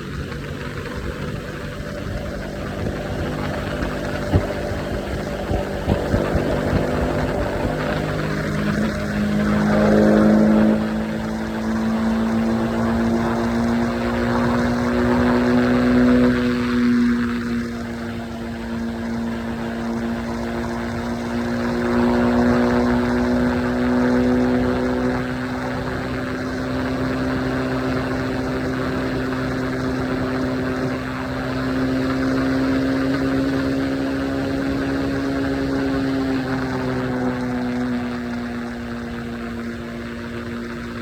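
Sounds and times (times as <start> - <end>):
motorcycle engine droning: 0.0 - 41.0
wind and road noise: 0.0 - 41.0.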